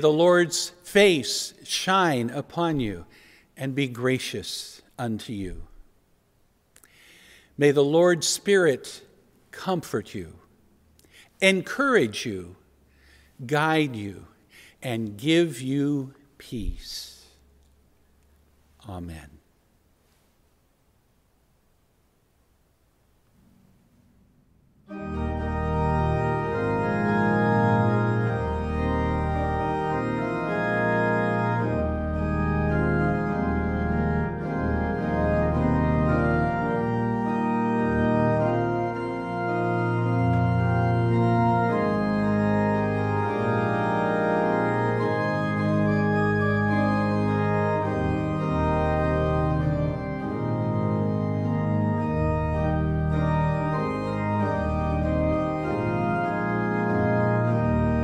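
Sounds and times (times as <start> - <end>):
church organ chords: 0.0 - 5.8, 7.5 - 10.5, 11.1 - 17.2, 24.8 - 58.0.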